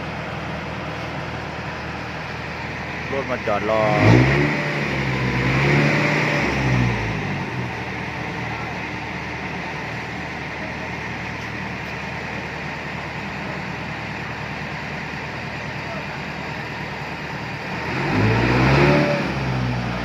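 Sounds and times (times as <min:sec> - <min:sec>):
vehicle engine running with hiss: 0:00.0 - 0:20.0.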